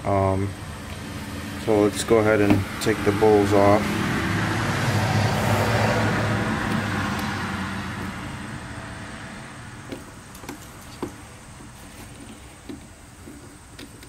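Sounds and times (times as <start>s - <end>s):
engine rumble: 0.0s - 14.0s.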